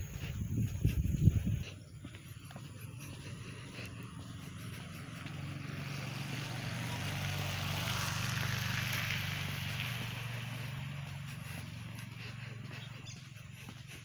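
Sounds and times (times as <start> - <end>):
motor vehicle passing: 0.0 - 14.0.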